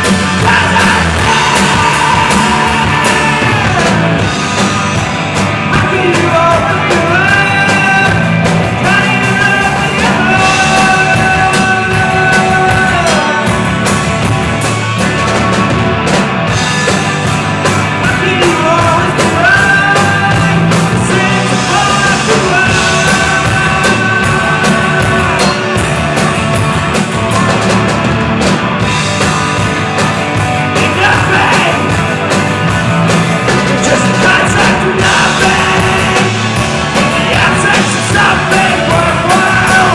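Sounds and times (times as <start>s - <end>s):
bass guitar: 0.0s - 39.9s
drums: 0.0s - 39.9s
electric guitar: 0.0s - 39.9s.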